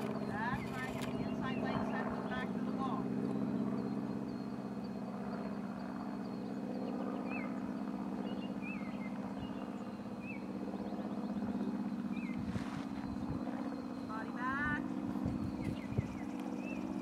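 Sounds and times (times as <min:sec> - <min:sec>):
low fluttering engine drone: 0:00.0 - 0:17.0.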